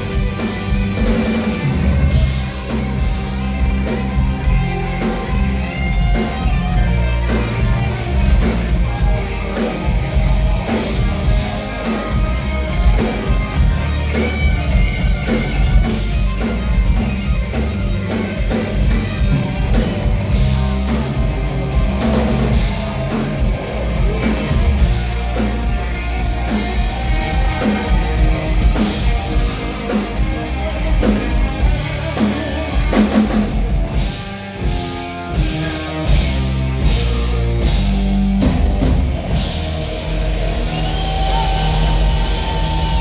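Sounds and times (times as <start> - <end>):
bass guitar: 0.0 - 43.0
electric guitar: 0.0 - 43.0
rock drum beat: 0.0 - 43.0.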